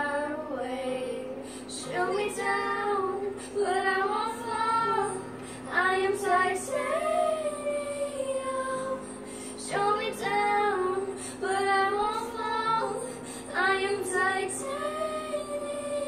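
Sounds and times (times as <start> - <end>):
girl singing long held notes: 0.0 - 16.0.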